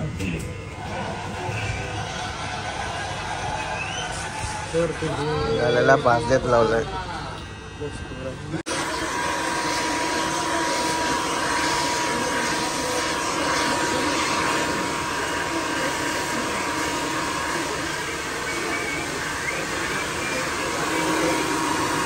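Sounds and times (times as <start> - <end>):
hair dryer blowing: 0.0 - 22.0.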